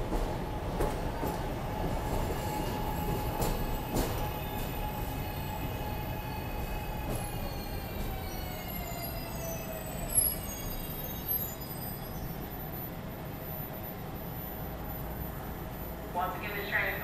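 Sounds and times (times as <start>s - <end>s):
elevated train rumbling: 0.0s - 17.0s.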